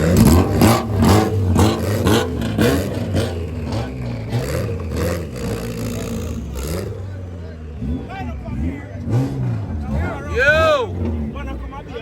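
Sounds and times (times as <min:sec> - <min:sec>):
drag car engines revving: 0:00.0 - 0:12.0.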